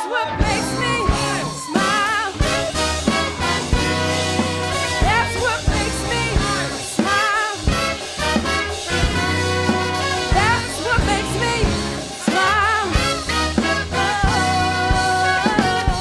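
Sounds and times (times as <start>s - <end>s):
electric guitar: 0.0s - 16.0s
funk band horn section: 0.0s - 16.0s
keyboard: 0.0s - 16.0s
bass: 0.3s - 16.0s
steady drum beat: 0.4s - 16.0s.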